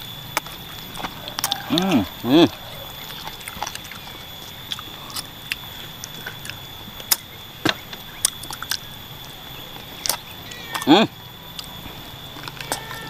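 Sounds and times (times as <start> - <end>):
chewing and crunching bones: 0.0 - 13.0.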